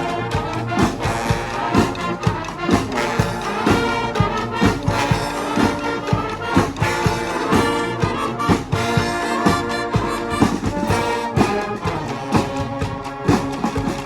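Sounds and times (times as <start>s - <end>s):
brass street band playing: 0.0s - 14.0s.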